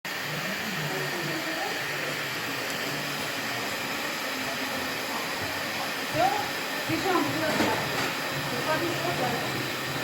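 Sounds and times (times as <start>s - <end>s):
faint voices: 0.1s - 10.0s
vacuum cleaner running: 0.1s - 10.0s.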